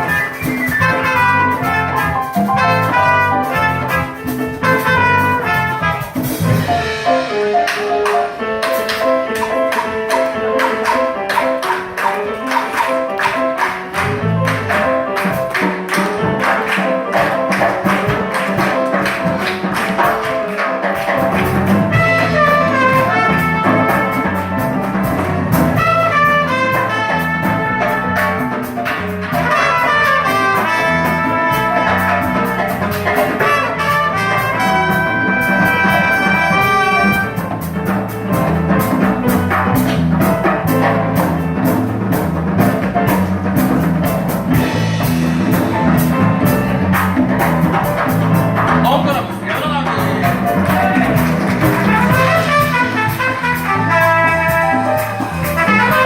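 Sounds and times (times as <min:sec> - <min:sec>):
bass: 0:00.0 - 0:11.6, 0:12.2 - 0:56.0
trumpet melody: 0:00.0 - 0:41.2, 0:47.9 - 0:56.0
drum beat: 0:00.0 - 0:56.0.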